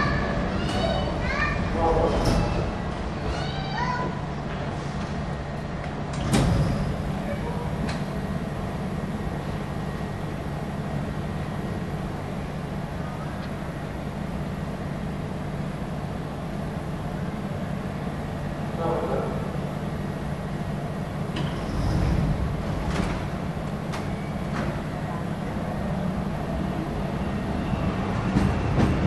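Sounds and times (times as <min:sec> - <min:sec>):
train humming: 0:00.0 - 0:29.0.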